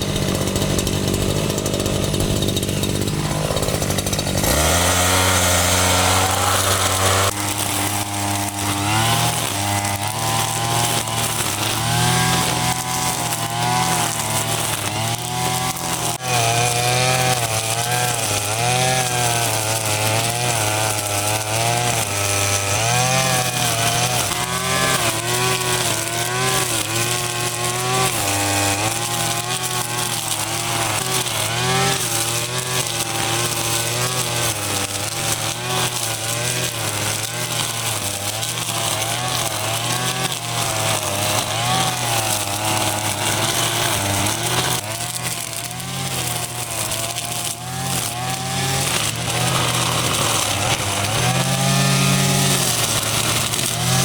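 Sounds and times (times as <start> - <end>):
small engine revving: 0.0 - 54.0.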